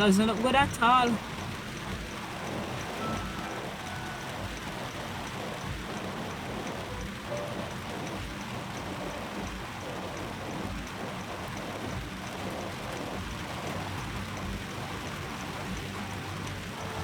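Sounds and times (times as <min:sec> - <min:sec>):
heavy rain on a car: 0:00.0 - 0:17.0.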